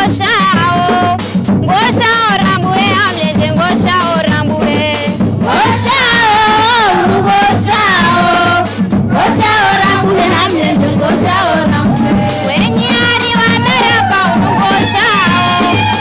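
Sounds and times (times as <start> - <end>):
steady drum beat: 0.0 - 16.0
women singing together: 0.0 - 16.0.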